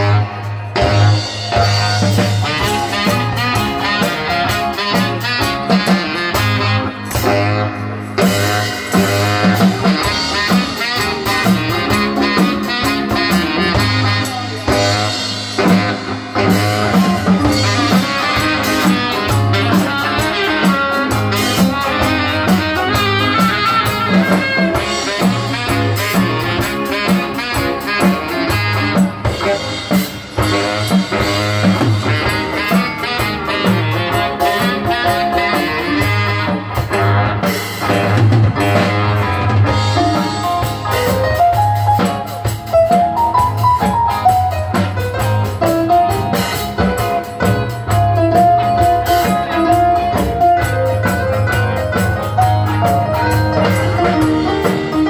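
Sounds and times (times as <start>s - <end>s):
drum kit beat: 0.0s - 55.0s
electric guitar: 0.0s - 55.0s
saxophone: 0.0s - 55.0s.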